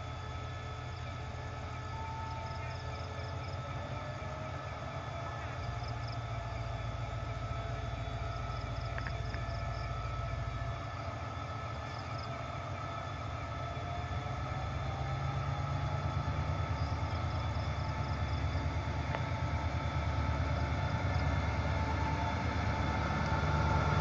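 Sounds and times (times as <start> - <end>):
locomotive engine rumble: 0.0 - 24.0.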